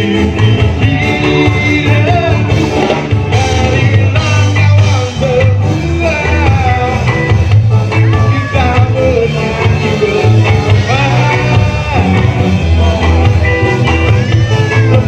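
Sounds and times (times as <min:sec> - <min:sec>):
band playing rock song: 0:00.0 - 0:15.0
person singing: 0:00.0 - 0:15.0.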